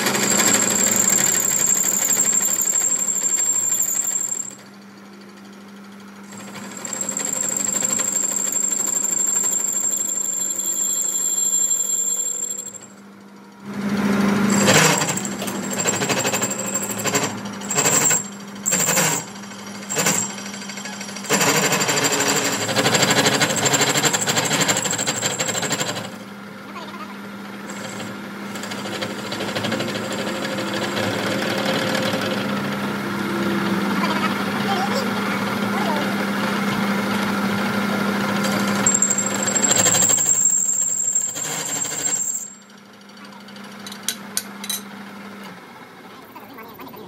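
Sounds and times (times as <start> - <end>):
power tool whining on steel: 0.0 - 4.8, 6.2 - 13.0, 13.8 - 26.2, 27.7 - 34.7, 35.4 - 42.8.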